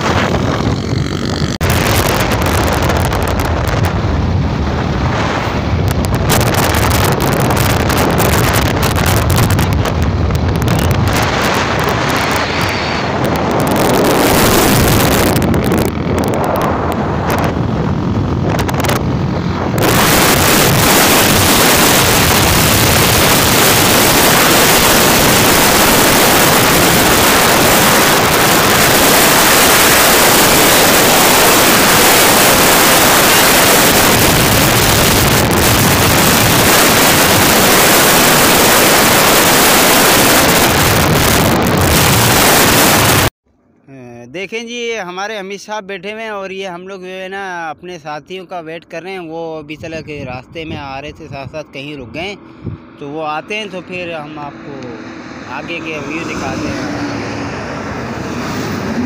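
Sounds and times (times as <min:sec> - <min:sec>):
wind rushing over microphone: 0:00.0 - 0:43.4, 0:47.9 - 0:59.0.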